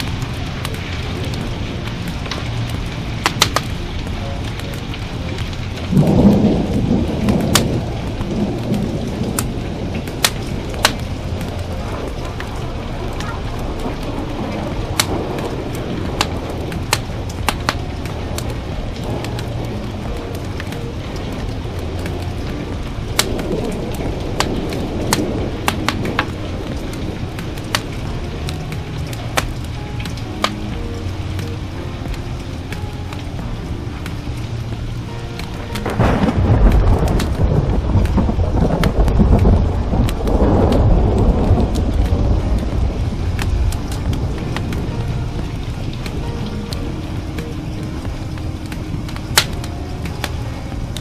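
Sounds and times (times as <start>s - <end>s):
steady rain: 0.0s - 51.0s
wood fire popping: 0.0s - 51.0s
thunder rolling: 5.2s - 31.0s, 35.6s - 51.0s.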